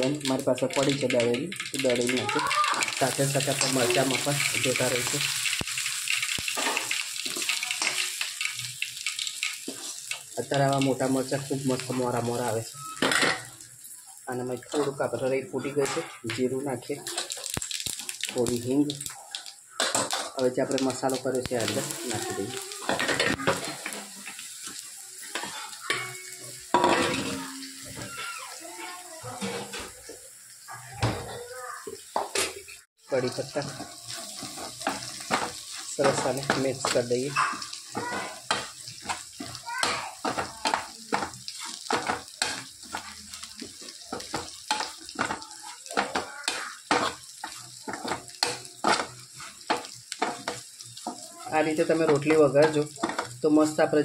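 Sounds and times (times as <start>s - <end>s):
spoon stirring spices: 0.0s - 16.4s, 17.0s - 28.6s, 33.1s - 54.0s
hot oil sizzling in a pan: 0.0s - 54.0s.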